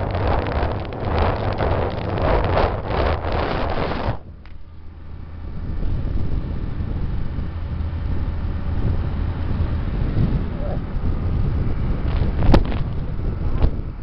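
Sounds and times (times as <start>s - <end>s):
motorcycle engine and road noise: 0.0s - 14.0s
wind buffeting microphone: 0.0s - 14.0s.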